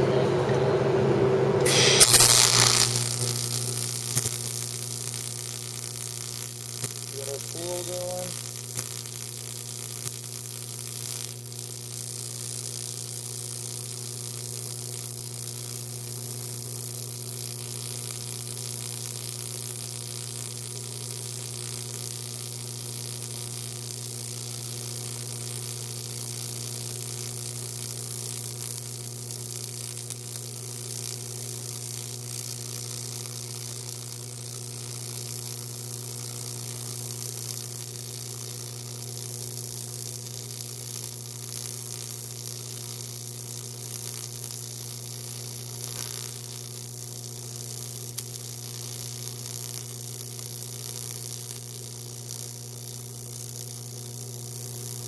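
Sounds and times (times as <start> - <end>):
welding arc buzzing hum: 1.4 - 55.0
welding arc hiss: 1.6 - 55.0.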